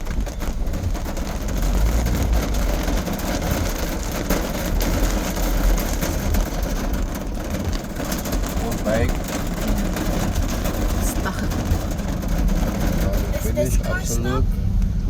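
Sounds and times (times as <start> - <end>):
car engine and road rumble: 0.0 - 15.0
rain ticking on car body: 0.0 - 15.0.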